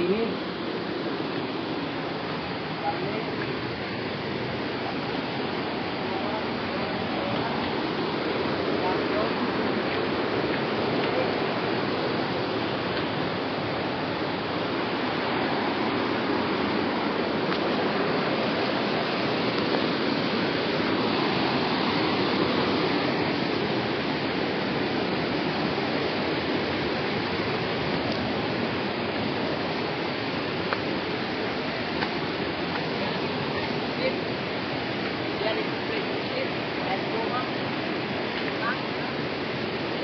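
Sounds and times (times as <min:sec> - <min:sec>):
rushing water roar: 0:00.0 - 0:40.0.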